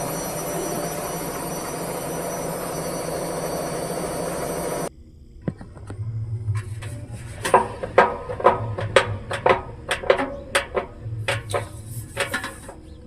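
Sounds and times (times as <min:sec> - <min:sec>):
knocking and rattling clunks: 0:00.0 - 0:04.9, 0:06.6 - 0:13.0
washing machine whir and hiss: 0:00.0 - 0:04.9, 0:06.7 - 0:13.0
low hum: 0:00.0 - 0:13.0.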